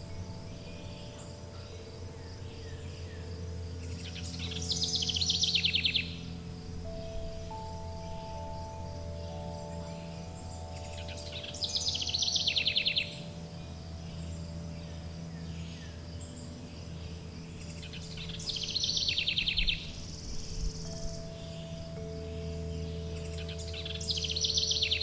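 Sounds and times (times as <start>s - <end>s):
ringing chime tones: 0.0s - 25.0s
songbird trilling: 0.0s - 25.0s
steady low hum: 0.0s - 25.0s.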